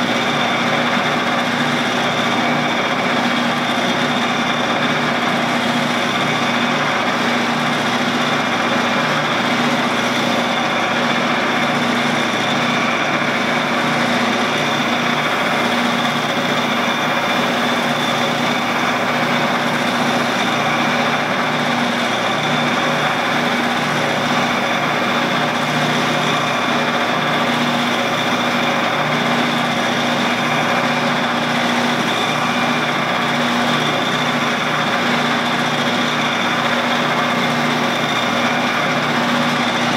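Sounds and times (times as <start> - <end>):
lathe running steadily: 0.0 - 39.9.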